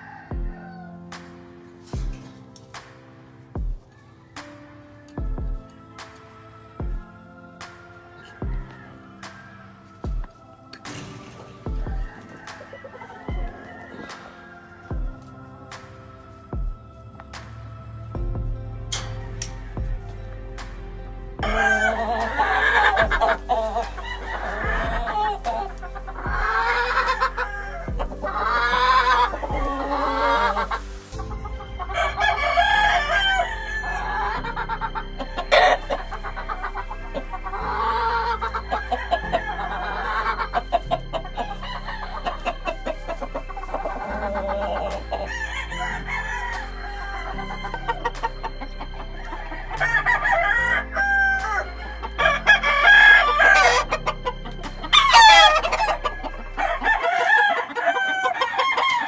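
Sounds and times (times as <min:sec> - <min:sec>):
roosters crowing: 0:00.0 - 0:02.9, 0:03.8 - 0:59.0
hens clucking: 0:00.0 - 0:59.0.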